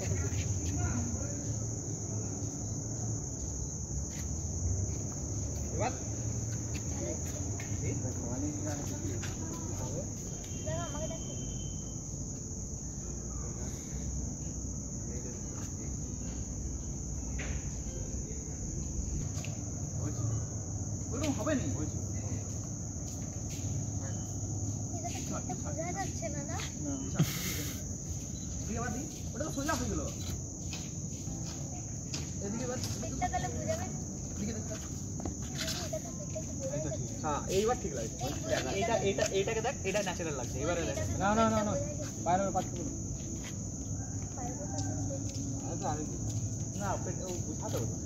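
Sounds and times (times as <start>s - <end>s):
insect chorus drone: 0.0s - 48.0s.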